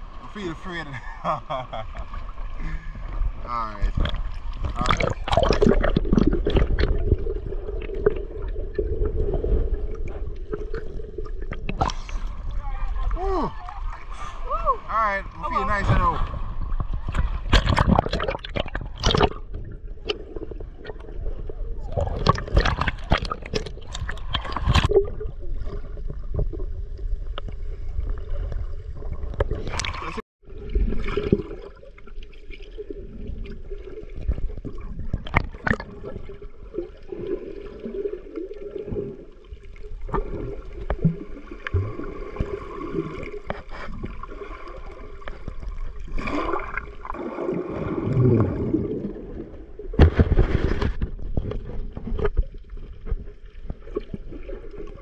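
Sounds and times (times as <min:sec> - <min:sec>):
water gurgling and sloshing: 0:00.0 - 0:55.0
water splashes: 0:00.0 - 0:55.0.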